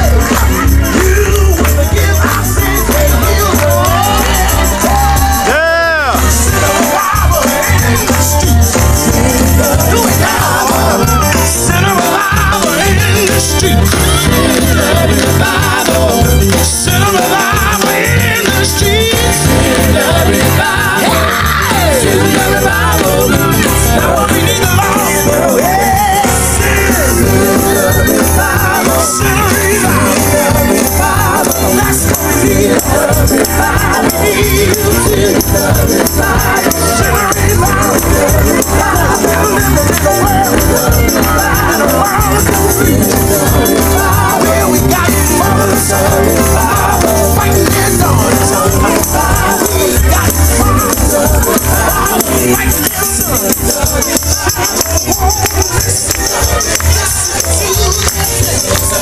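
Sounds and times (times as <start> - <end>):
group singing gospel: 0.0 - 59.0
shaken percussion: 0.0 - 59.0
steady bass beat: 0.0 - 59.0
tambourine: 0.0 - 59.0.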